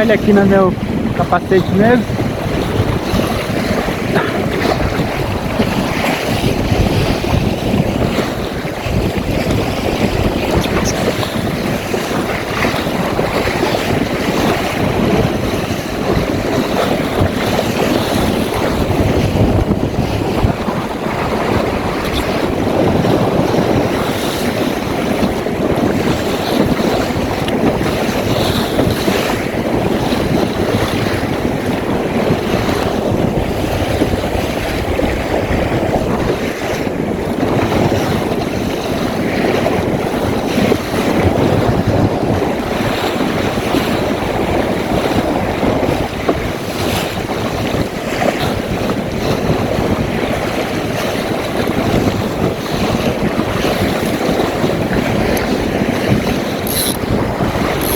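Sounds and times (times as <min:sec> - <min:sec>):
water rushing against hull: 0:00.0 - 0:57.9
wind buffeting microphone: 0:00.0 - 0:57.9.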